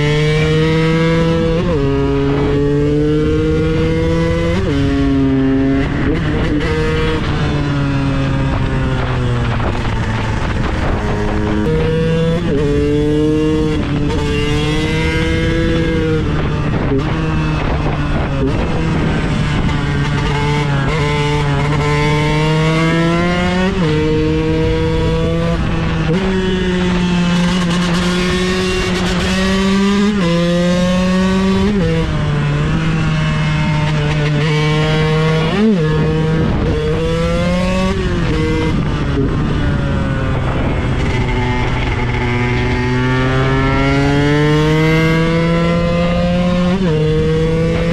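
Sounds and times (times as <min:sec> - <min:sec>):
two-stroke motorcycle engine revving: 0:00.0 - 0:47.9.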